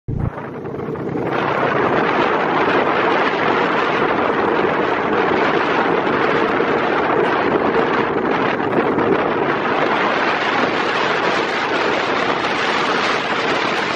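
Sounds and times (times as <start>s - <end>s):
wind buffeting microphone: 0.1s - 13.9s.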